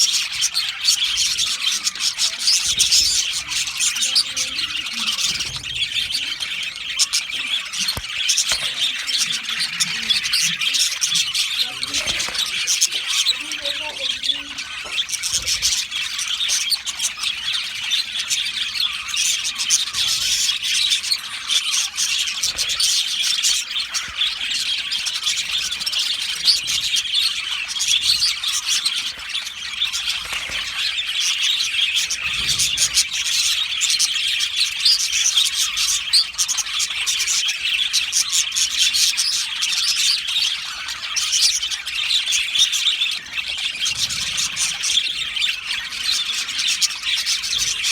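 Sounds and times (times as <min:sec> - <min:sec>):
budgerigars chattering: 0:00.0 - 0:47.9.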